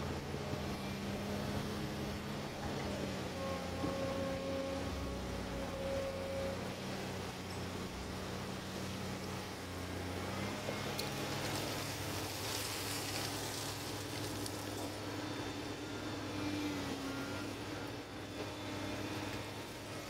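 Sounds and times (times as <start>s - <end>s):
excavator diesel engine running: 0.0s - 20.0s
hydraulic whine: 0.0s - 20.0s.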